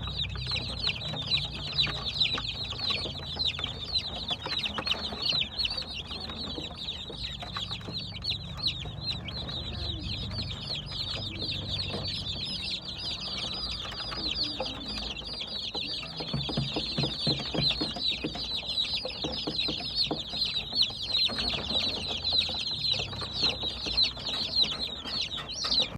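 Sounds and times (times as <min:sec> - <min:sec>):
baby chicks chirping: 0:00.0 - 0:25.9.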